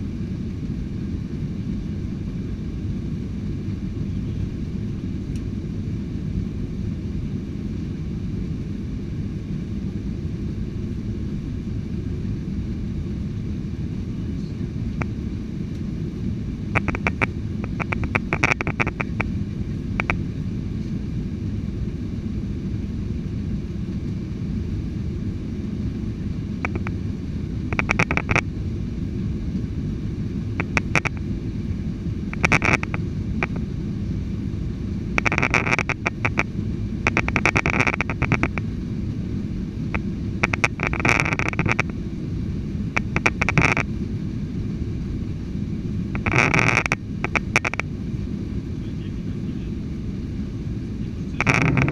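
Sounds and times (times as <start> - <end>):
jet engine cabin rumble: 0.0 - 51.9.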